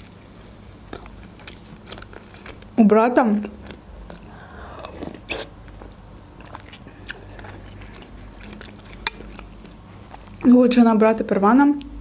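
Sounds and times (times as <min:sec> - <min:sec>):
close chewing: 0:00.0 - 0:10.5.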